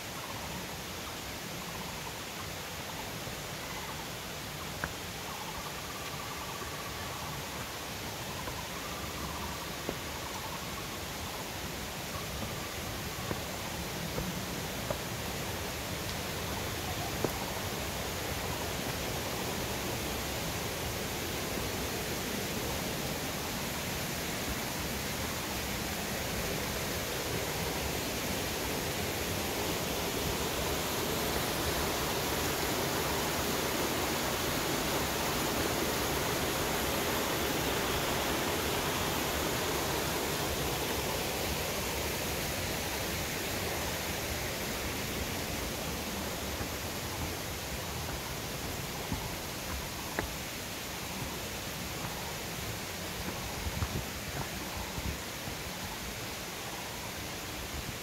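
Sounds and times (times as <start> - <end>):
rocky stream rushing: 0.0 - 58.0.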